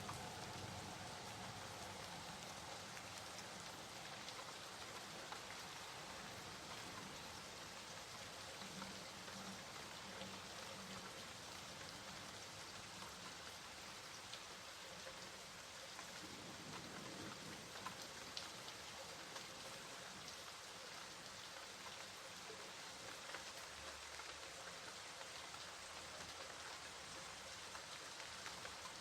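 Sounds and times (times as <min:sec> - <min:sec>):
soft rainfall: 0:00.0 - 0:29.0.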